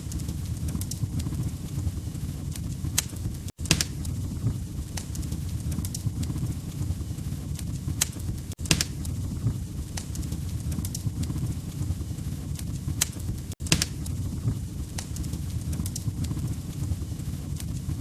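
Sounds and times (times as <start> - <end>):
fire popping and snapping: 0.0 - 18.0
low rumble of burning wood: 0.0 - 18.0.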